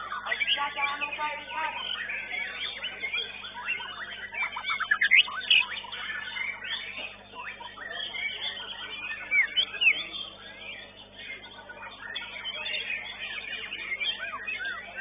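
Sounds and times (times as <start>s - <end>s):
songbirds whistling and chirping: 0.0s - 15.0s.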